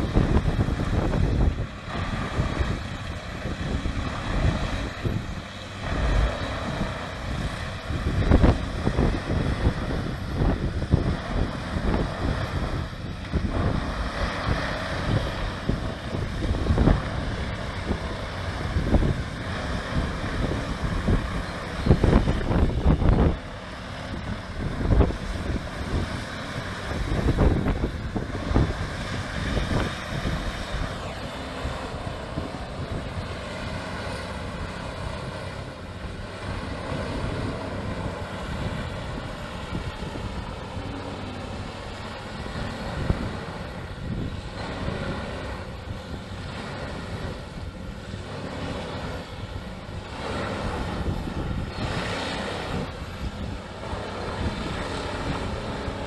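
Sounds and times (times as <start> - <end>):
machine engine running: 0.0 - 56.0.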